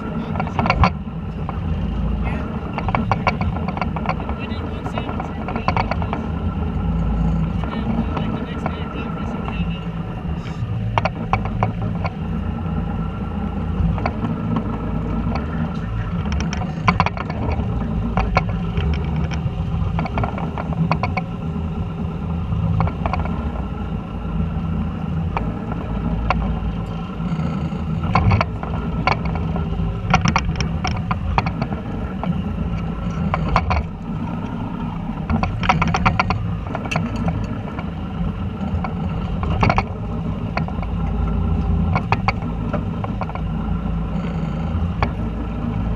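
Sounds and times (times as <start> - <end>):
clicks and rattles: 0.0 - 6.4, 10.8 - 12.8, 13.8 - 21.5, 22.7 - 23.7, 25.2 - 45.6
boat engine droning: 0.0 - 45.9.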